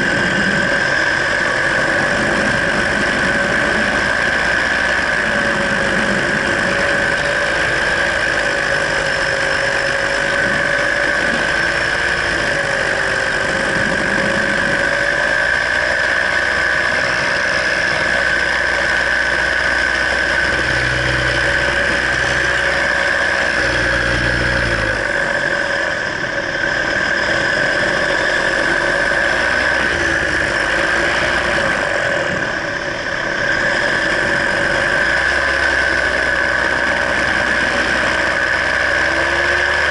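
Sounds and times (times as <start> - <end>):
paramotor engine droning: 0.0 - 39.9.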